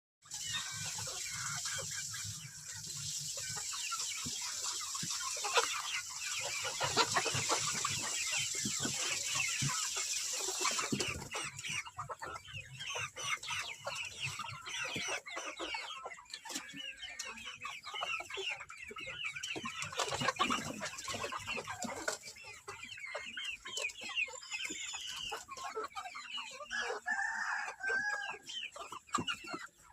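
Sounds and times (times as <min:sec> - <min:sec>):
chickens clucking: 0:00.2 - 0:29.9.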